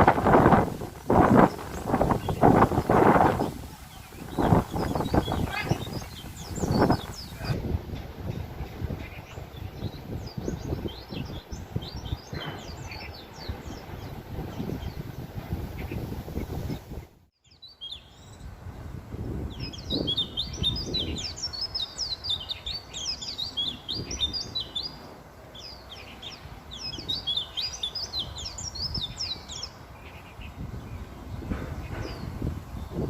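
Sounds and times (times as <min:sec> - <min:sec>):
bird twittering warble: 0:00.0 - 0:18.5, 0:19.5 - 0:33.0.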